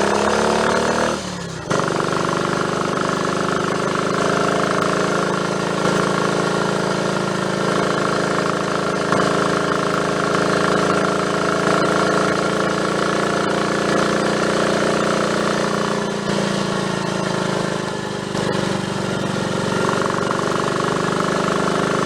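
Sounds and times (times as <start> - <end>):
motorcycle engine on the road: 0.0 - 22.0.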